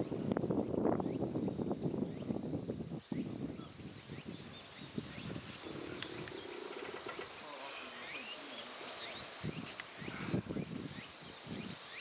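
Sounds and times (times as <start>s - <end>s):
high-pitched insect chorus: 0.0s - 12.0s
short insect chirps: 0.0s - 12.0s.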